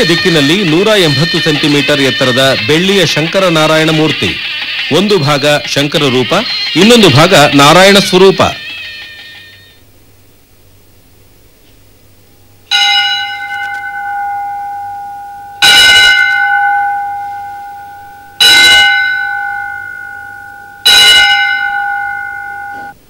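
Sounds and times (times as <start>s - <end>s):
metal temple bell ringing: 0.0s - 9.8s, 12.7s - 23.0s.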